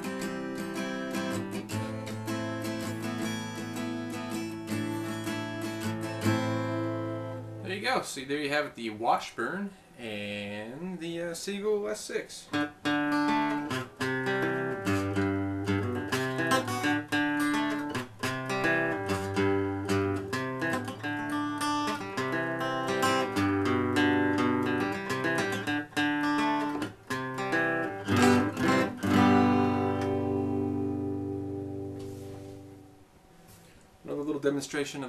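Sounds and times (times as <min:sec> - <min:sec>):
acoustic guitar strummed chords: 0:00.0 - 0:08.0, 0:12.5 - 0:33.6
acoustic guitar picked notes: 0:00.0 - 0:08.6, 0:12.5 - 0:33.8.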